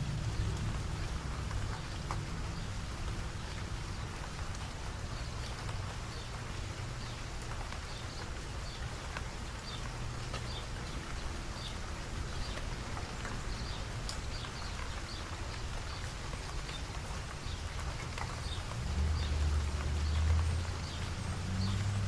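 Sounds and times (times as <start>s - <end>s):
low rumble and hiss of rain: 0.0s - 22.0s.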